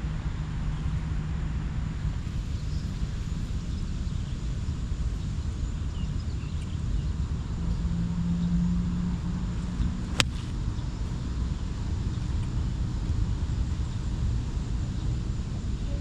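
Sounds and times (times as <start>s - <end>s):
small vehicle engine rumble: 0.0s - 16.0s
steady hum: 0.0s - 16.0s.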